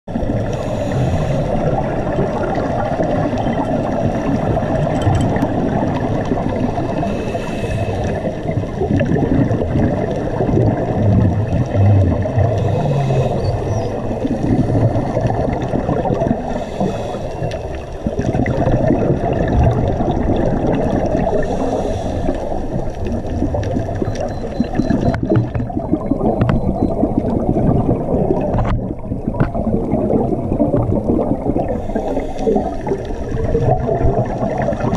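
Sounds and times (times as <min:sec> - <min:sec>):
muffled underwater rush: 0:00.1 - 0:34.9
water gurgling: 0:00.1 - 0:34.9.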